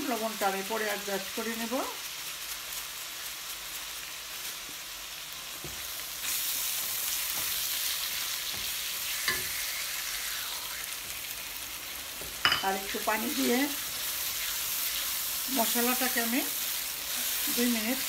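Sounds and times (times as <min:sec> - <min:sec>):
masala sizzling in hot oil: 0:00.0 - 0:18.0.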